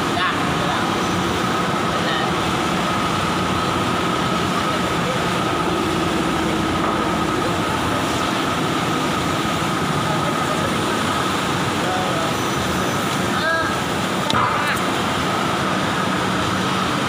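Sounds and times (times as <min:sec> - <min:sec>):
factory machinery rumble: 0:00.0 - 0:17.0
high machine whine: 0:00.0 - 0:17.0.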